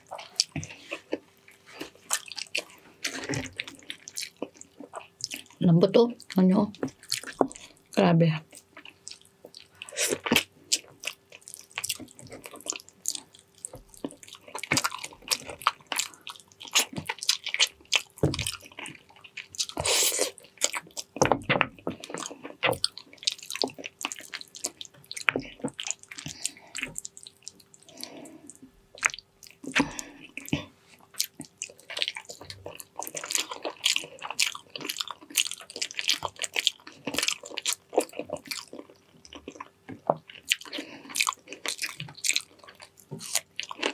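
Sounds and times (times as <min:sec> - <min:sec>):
person chewing and lip smacking: 0:00.0 - 0:05.6, 0:06.2 - 0:43.9.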